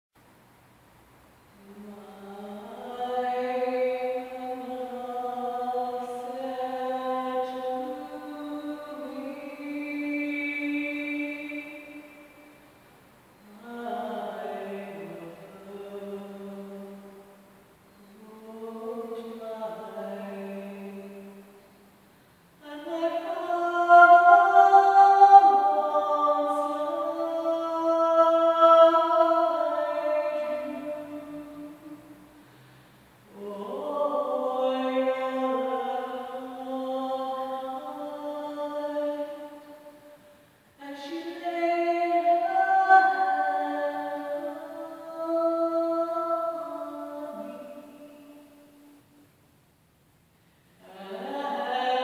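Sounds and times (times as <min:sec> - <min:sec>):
solo singing voice: 0:01.5 - 0:12.7, 0:13.4 - 0:21.9, 0:22.6 - 0:32.6, 0:33.3 - 0:49.2, 0:50.8 - 0:52.0.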